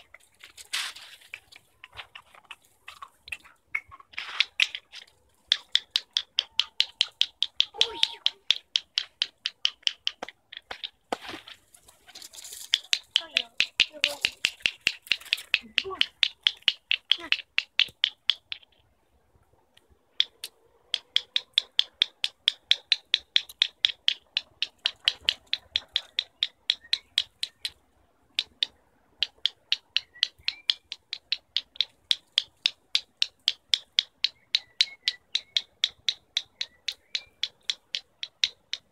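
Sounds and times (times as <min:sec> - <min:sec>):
squirrel alarm call clicks: 0:03.3 - 0:11.1, 0:12.6 - 0:18.8, 0:19.8 - 0:38.9.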